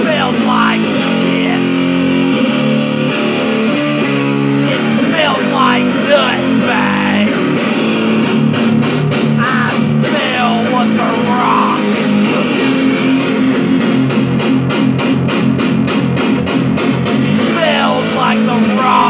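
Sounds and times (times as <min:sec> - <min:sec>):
electric guitar rock riff: 0:00.0 - 0:19.0.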